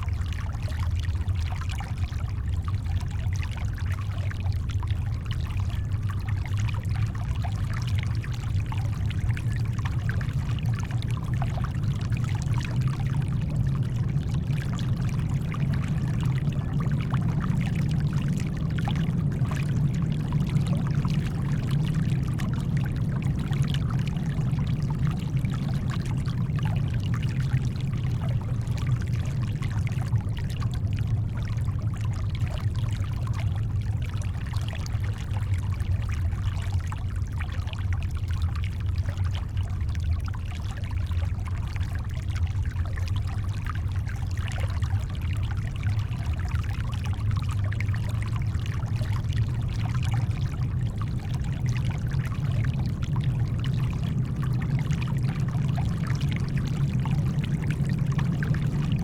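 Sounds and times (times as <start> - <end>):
deep brown noise: 0.0 - 59.0.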